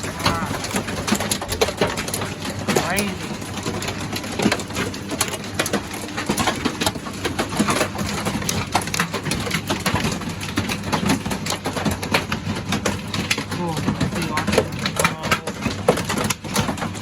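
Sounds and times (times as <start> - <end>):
hail drumming on roof: 0.0 - 17.0.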